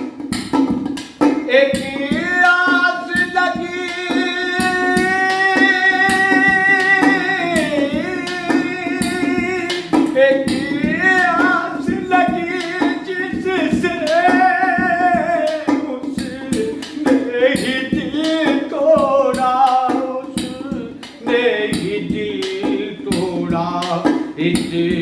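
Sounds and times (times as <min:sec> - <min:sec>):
instrumental accompaniment: 0:00.0 - 0:25.0
steady percussion: 0:00.0 - 0:25.0
man singing sad song: 0:01.4 - 0:25.0.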